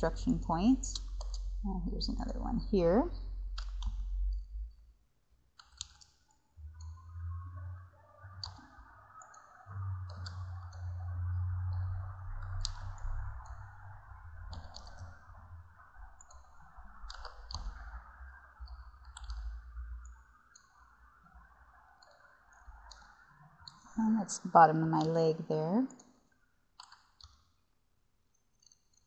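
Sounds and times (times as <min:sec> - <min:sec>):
low steady hum: 0:00.0 - 0:05.9, 0:06.5 - 0:26.1.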